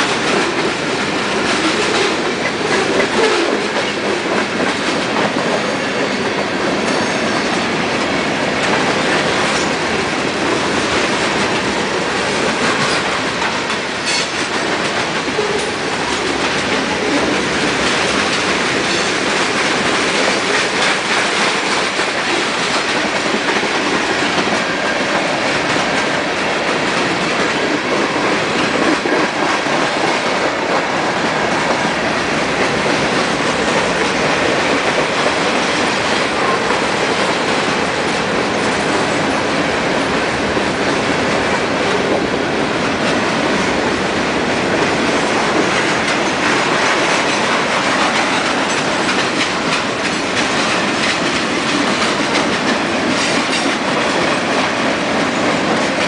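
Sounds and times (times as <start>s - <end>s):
steel train wheels on rails: 0.0s - 56.0s.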